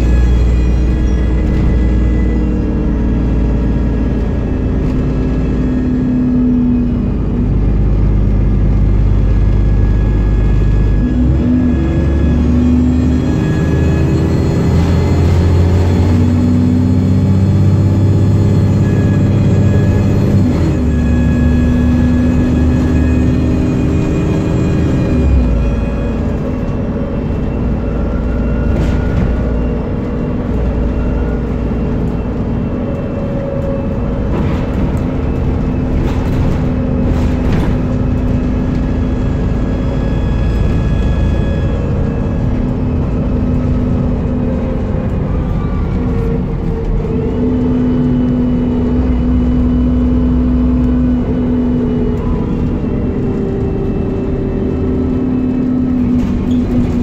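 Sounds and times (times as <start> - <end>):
bus engine whine and rumble: 0.0 - 57.0.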